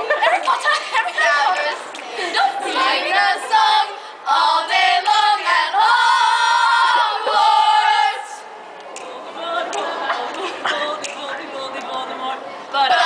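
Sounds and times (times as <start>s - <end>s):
high young voices chanting: 0.1s - 13.0s.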